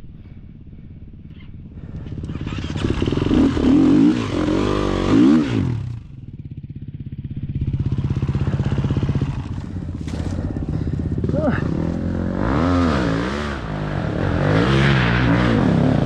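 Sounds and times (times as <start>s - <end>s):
dirt bike engine revving: 1.6s - 6.2s, 7.4s - 16.0s.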